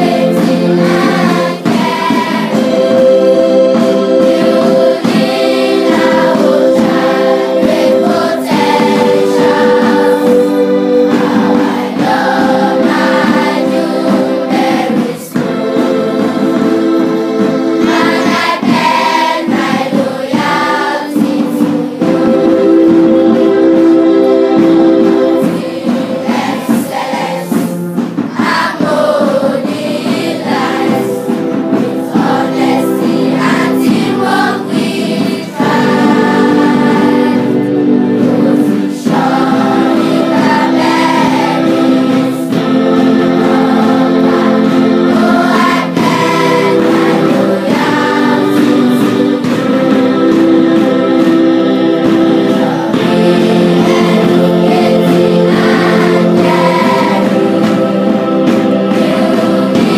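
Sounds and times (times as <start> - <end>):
children singing together: 0.0 - 59.9.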